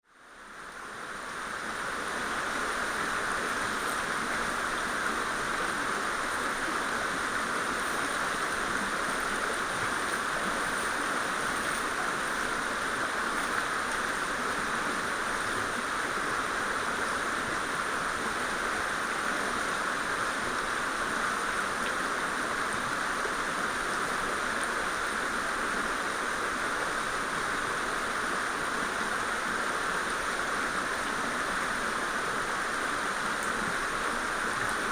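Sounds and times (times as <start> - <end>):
stream rushing over rocks: 0.3 - 34.9.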